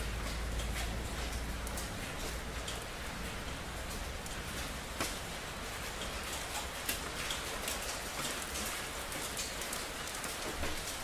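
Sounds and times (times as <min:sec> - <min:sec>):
rain on hard surfaces: 0:00.0 - 0:11.0.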